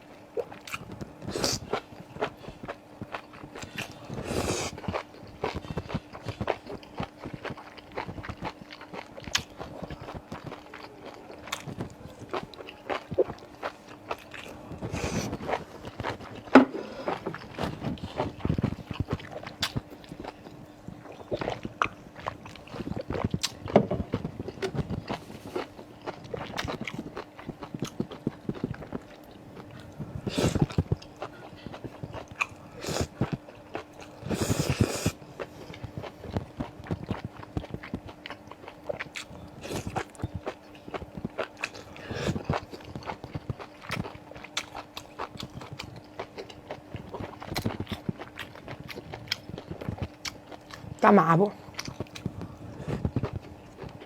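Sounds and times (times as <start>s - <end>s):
faint steady hum: 0.0s - 54.0s
crunchy chewing: 0.4s - 54.0s.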